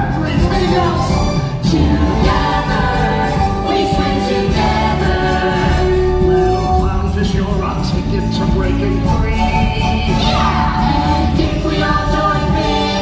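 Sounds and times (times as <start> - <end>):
group of voices singing: 0.0 - 6.9, 8.9 - 13.0
recorded musical accompaniment: 0.0 - 13.0.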